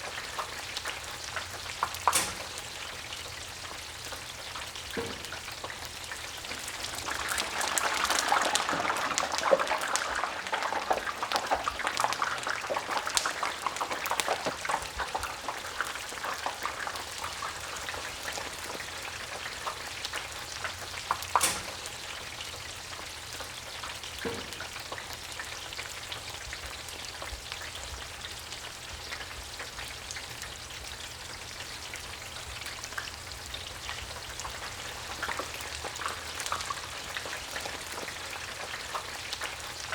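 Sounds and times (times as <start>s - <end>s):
fries bubbling in hot oil: 0.0s - 39.9s.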